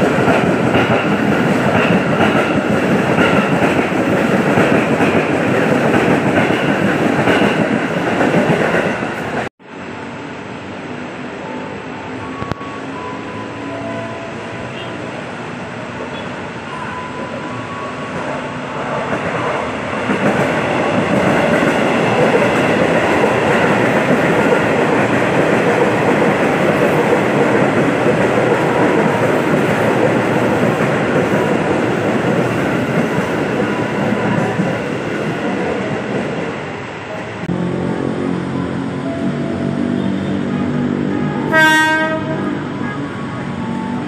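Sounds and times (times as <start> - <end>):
electric train passing on rails: 0.0 - 44.0.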